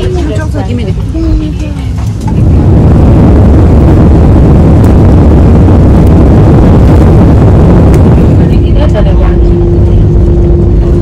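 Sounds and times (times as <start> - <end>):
jet engine roar in airplane cabin: 0.0 - 11.0.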